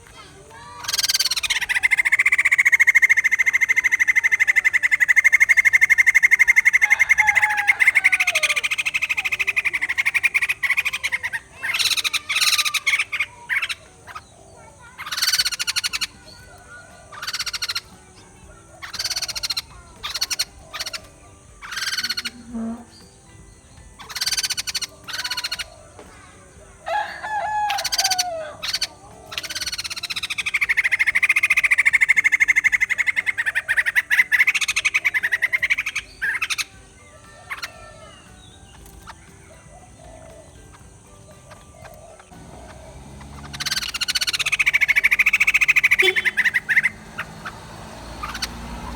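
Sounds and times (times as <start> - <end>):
short loud bird calls: 0.2 - 23.2, 24.0 - 48.9
bird buzzing trill: 0.2 - 48.9.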